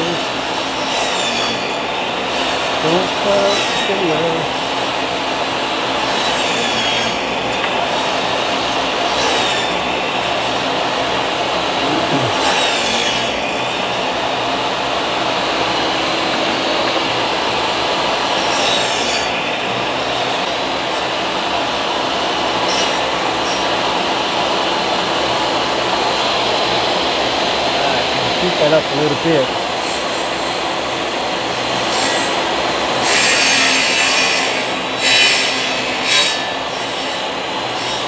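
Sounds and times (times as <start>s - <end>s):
power tool running: 0.0s - 38.0s.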